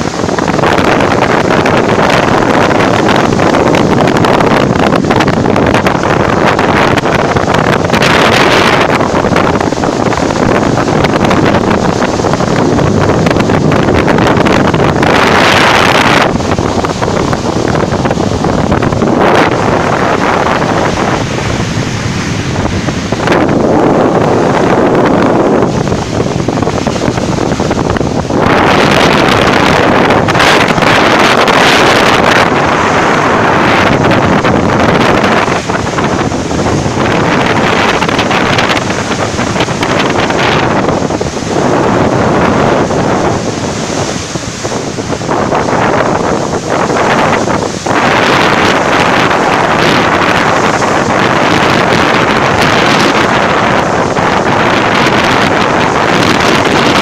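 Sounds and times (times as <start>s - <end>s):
bow wave rushing and splashing: 0.0s - 57.0s
wind buffeting microphone: 0.0s - 57.0s.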